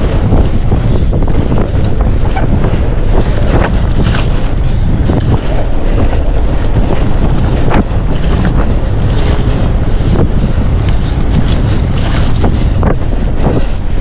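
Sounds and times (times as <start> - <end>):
bike rattling clicks and knocks: 0.0 - 14.0
tyres through water and mud: 0.0 - 14.0
wind buffeting microphone: 0.0 - 14.0.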